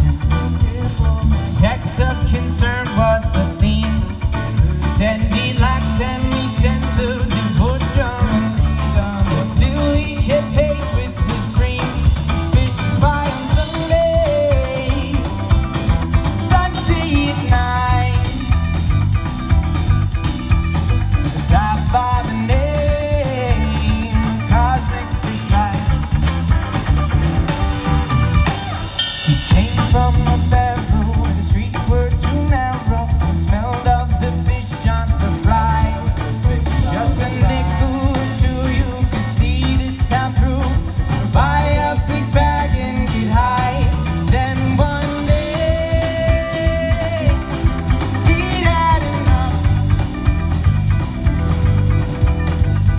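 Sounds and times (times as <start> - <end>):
person singing: 0.0 - 18.6, 21.3 - 26.3, 28.5 - 50.2
live band playing: 0.0 - 52.9.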